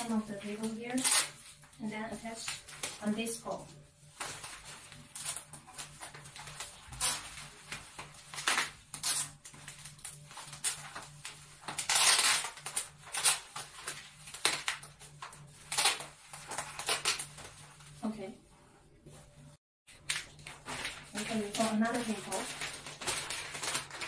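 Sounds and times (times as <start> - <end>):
wrapping paper rustling: 0.0 - 18.2, 19.9 - 24.0.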